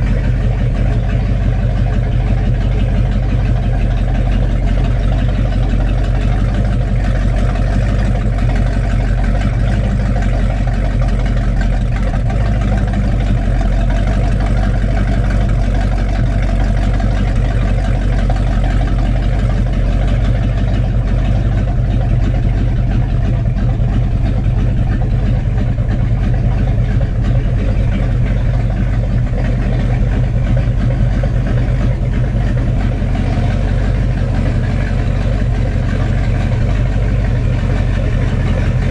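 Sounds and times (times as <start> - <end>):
boat engine idling: 0.0 - 38.9.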